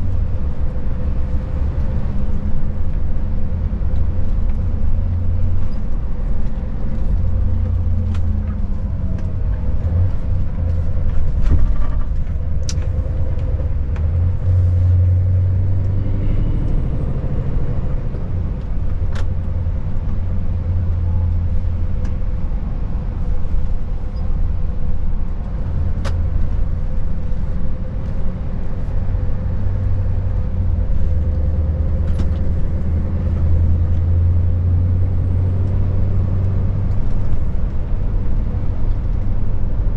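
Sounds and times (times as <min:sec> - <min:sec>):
truck diesel engine droning: 0:00.0 - 0:39.9
tyre and road noise: 0:00.0 - 0:39.9.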